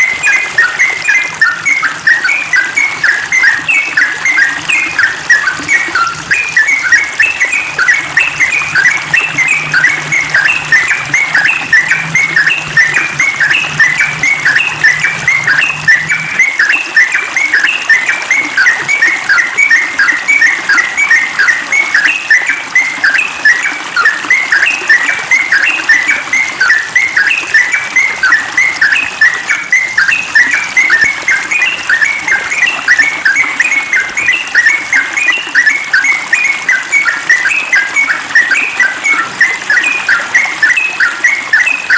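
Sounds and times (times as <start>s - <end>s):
bird singing rapid notes: 0.0s - 41.9s.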